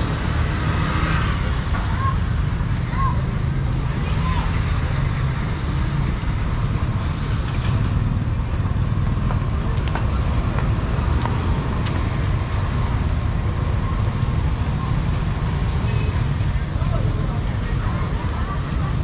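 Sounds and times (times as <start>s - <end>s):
street traffic rumbling: 0.0s - 19.0s.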